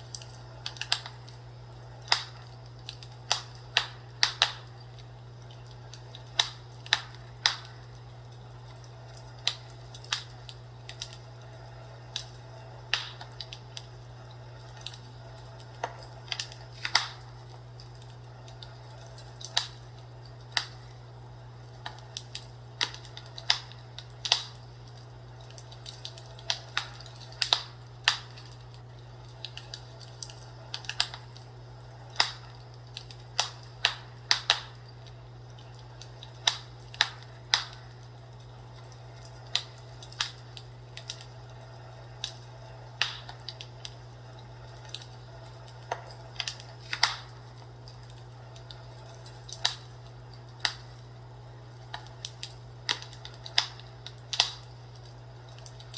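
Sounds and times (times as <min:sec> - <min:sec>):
fireplace crackling: 0:00.0 - 0:55.9
steady low hum: 0:00.0 - 0:55.9.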